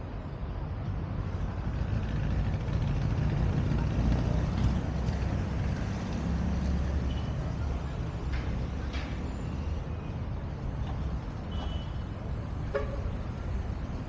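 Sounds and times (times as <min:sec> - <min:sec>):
street traffic engine rumble: 0:00.0 - 0:14.0.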